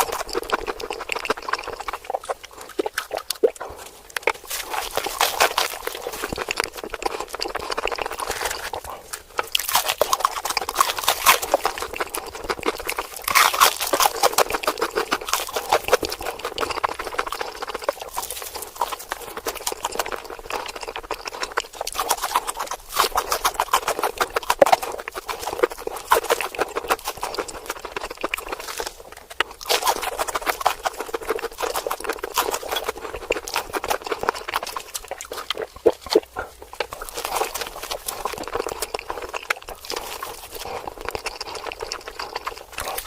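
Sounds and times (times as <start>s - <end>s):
crunching and chewing fried chicken: 0.0s - 43.0s.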